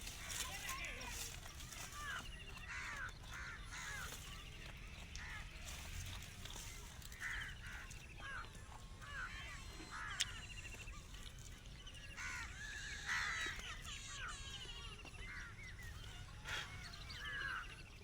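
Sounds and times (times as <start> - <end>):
birds chirping and trilling: 0.0 - 18.0.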